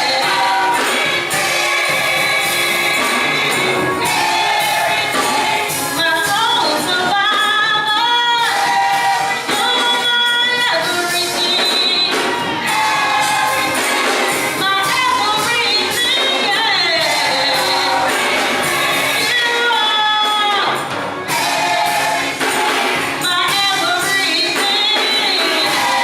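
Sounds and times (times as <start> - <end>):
band accompaniment: 0.0 - 26.0
gospel choir singing: 0.0 - 26.0.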